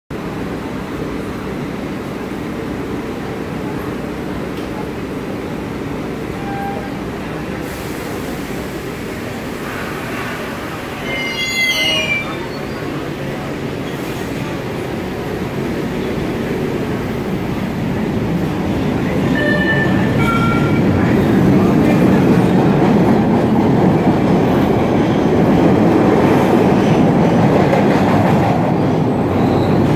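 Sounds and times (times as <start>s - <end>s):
subway train rumbling: 0.1s - 29.9s.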